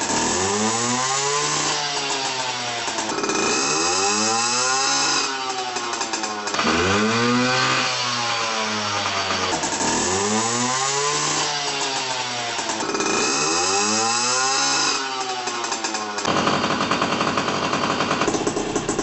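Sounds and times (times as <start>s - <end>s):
small two-stroke engine revving: 0.0s - 19.0s.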